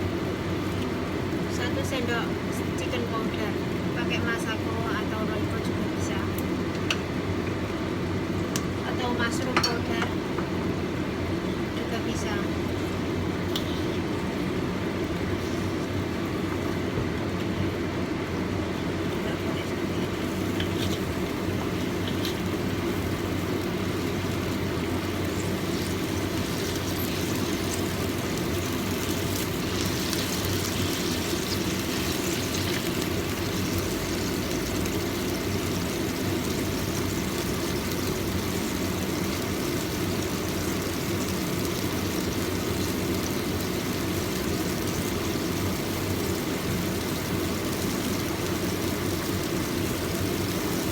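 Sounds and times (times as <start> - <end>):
fan humming: 0.0 - 50.9.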